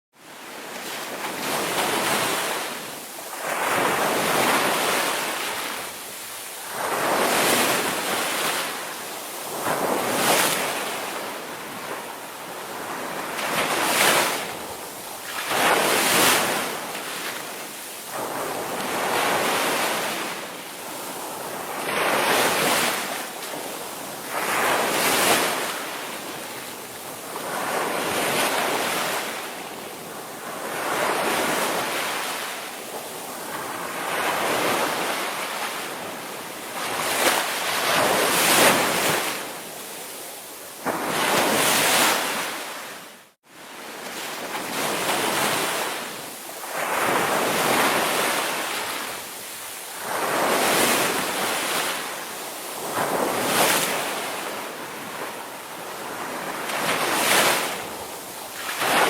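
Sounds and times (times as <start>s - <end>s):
ocean waves breaking: 0.3s - 59.0s.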